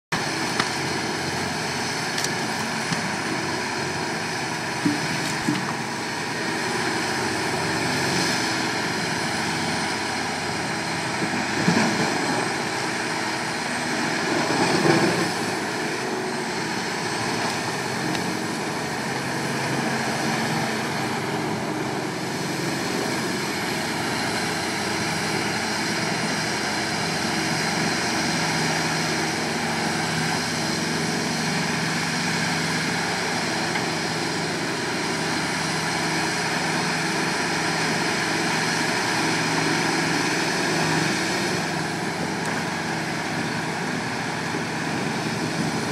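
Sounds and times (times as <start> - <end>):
excavator working: 0.1 - 45.9
wood grinder running: 0.1 - 45.9.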